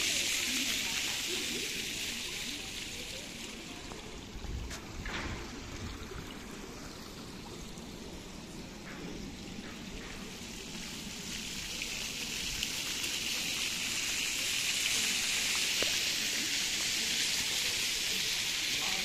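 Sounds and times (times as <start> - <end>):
running water hiss: 0.0 - 19.0.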